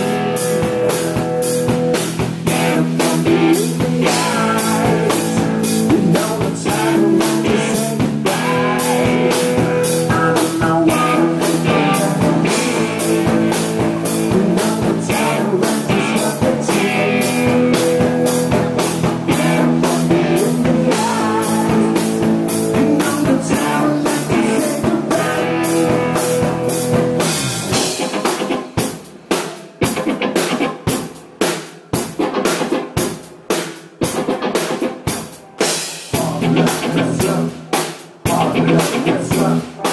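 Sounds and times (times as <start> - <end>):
drum kit hits: 0.0 - 39.9
live rock band playing: 0.0 - 39.9.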